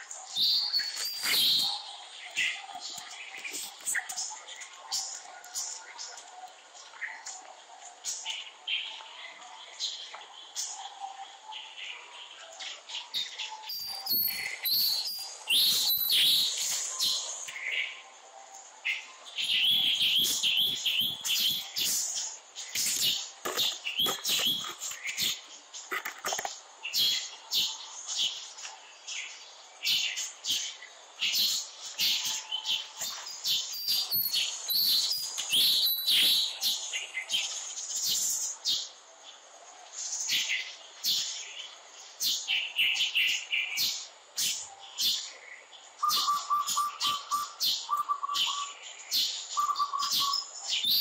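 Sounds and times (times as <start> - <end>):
birds chirping: 0.0 - 39.4, 40.0 - 51.0.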